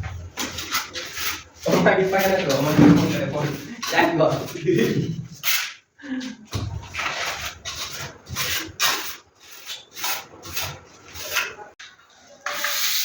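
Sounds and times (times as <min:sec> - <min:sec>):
plastering tool rubbing on plaster: 0:00.0 - 0:05.8, 0:06.6 - 0:11.8.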